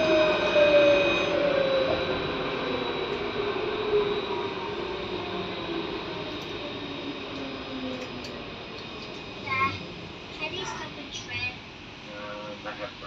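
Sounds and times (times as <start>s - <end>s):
tram wheel and rail rumble: 0.0s - 13.0s.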